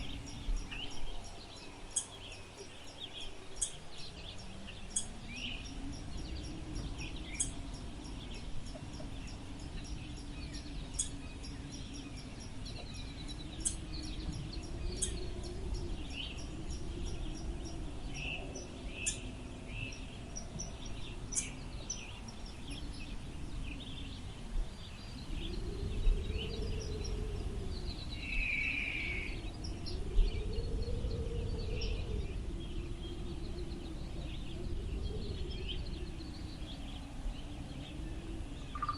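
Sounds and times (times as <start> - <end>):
birds chirping: 0.0 - 38.9
wind blowing in gusts: 0.0 - 38.9.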